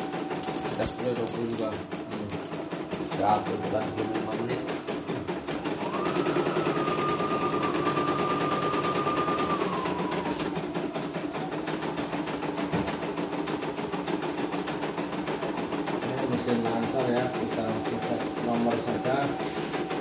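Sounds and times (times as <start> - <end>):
embroidery machine needle clatter: 0.0 - 20.0.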